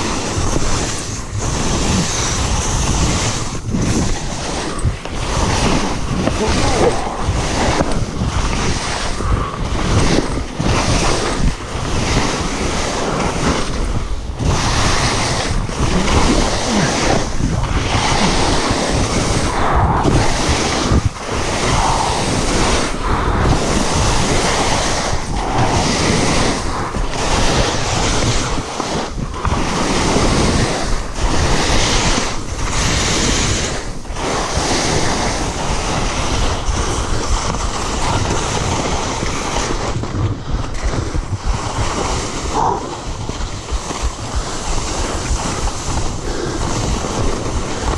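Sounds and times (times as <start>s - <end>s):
skis scraping through snow: 0.0s - 47.9s
wind on microphone: 0.0s - 47.9s.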